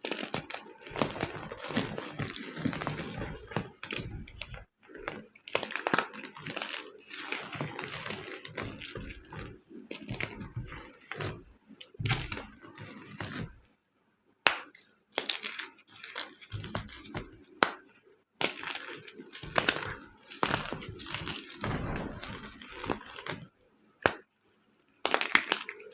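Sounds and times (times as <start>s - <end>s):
chalk crunching and crackling: 0.0s - 13.6s, 14.5s - 24.2s, 25.0s - 25.9s.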